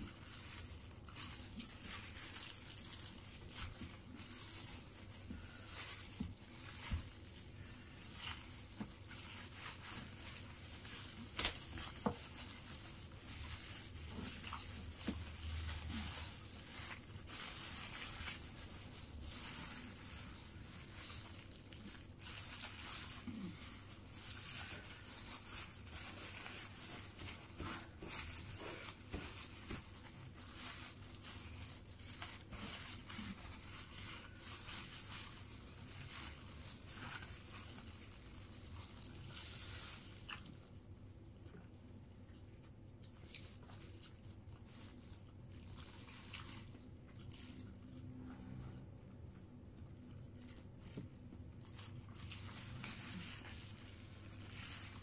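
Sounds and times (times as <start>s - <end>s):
paper wrapper crinkling: 0.0s - 41.4s, 43.0s - 55.0s.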